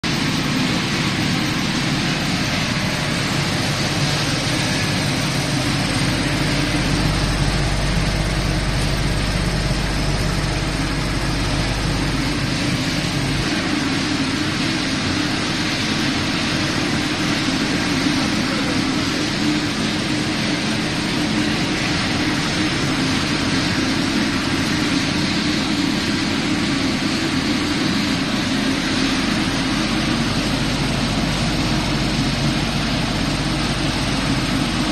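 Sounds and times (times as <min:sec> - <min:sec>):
low hum: 0:00.0 - 0:34.9
production line machinery running: 0:00.0 - 0:34.9.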